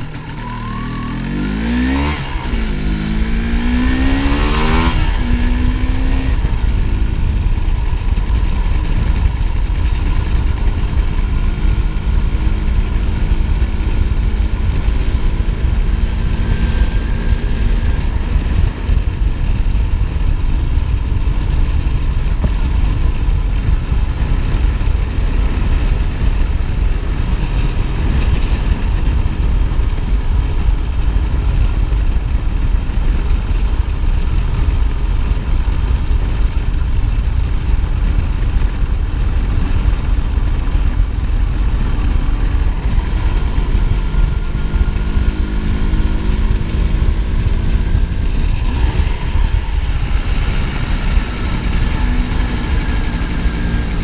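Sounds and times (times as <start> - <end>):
low wind rumble: 0.0 - 54.0
two-stroke motorcycle engine: 0.0 - 54.0.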